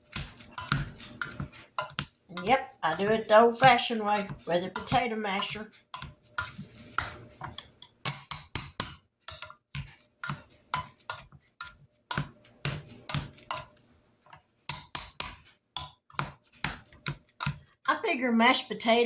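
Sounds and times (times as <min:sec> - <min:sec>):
potato masher clacking in pot: 0:00.0 - 0:13.8, 0:14.7 - 0:17.7.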